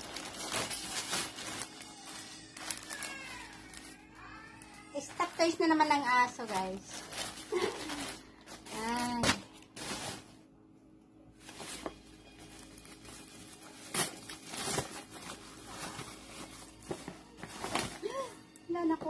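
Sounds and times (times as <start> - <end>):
plastic packaging rustling and tearing: 0.0 - 10.4, 11.4 - 18.4.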